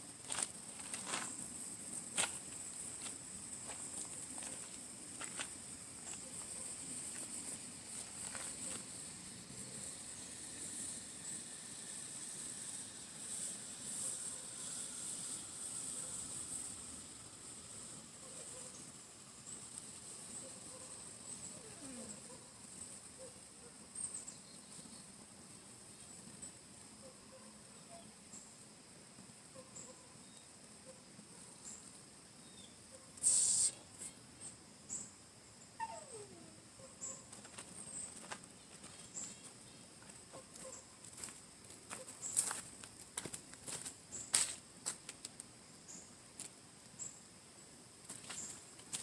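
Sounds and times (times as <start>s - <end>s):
steady high-pitched hiss: 0.0s - 49.0s.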